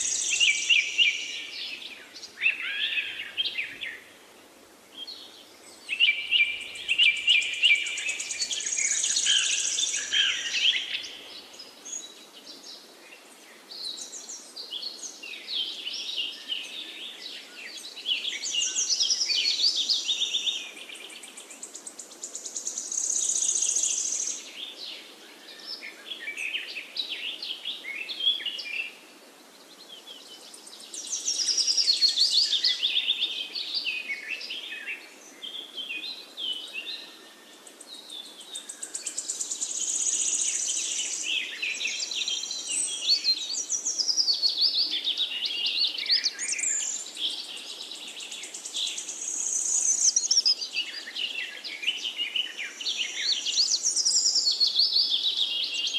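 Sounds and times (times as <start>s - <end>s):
faint background hiss: 0.0s - 55.9s
songbirds singing: 0.0s - 55.9s.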